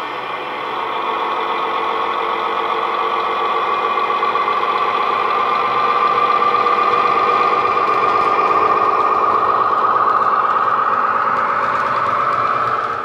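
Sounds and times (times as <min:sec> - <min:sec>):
diesel engine sound through speaker: 0:00.0 - 0:13.0.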